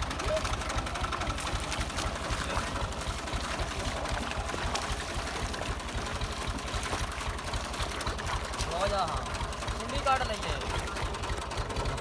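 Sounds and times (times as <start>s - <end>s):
tractor diesel engine chugging: 0.0s - 12.0s.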